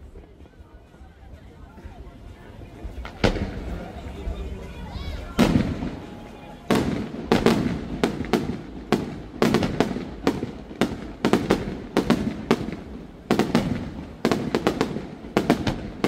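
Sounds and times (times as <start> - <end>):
fireworks bursting with sharp bangs: 1.8 - 16.0.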